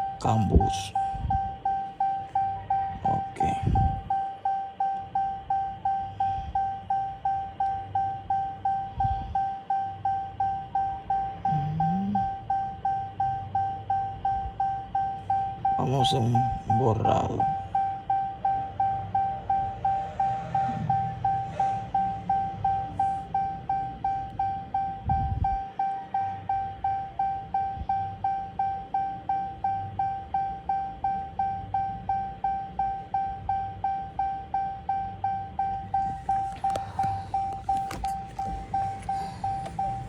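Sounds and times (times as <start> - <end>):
car warning chime dinging: 0.0 - 40.0.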